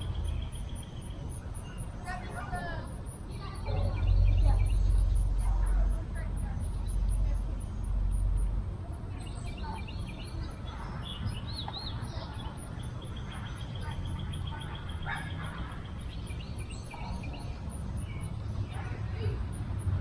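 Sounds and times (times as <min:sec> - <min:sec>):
birds chirping and trilling: 0:00.0 - 0:20.0
low rumble of wind: 0:00.0 - 0:20.0.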